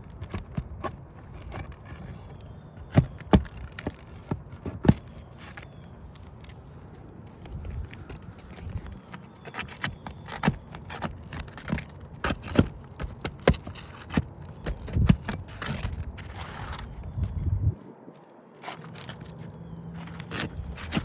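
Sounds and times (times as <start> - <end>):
scraping: 0.0 - 17.5, 18.5 - 21.0.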